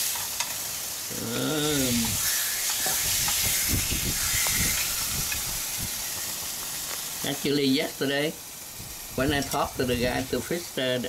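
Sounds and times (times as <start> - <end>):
fat sizzling in a frying pan: 0.0 - 11.0.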